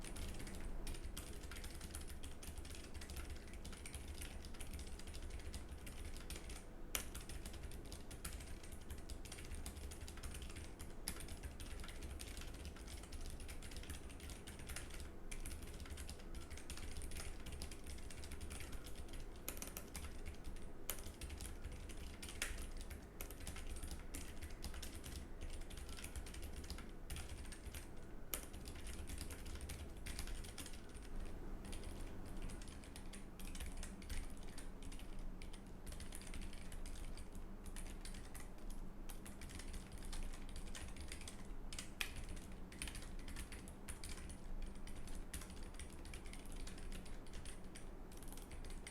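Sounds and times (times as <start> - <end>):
mechanical keyboard typing: 0.0 - 48.9.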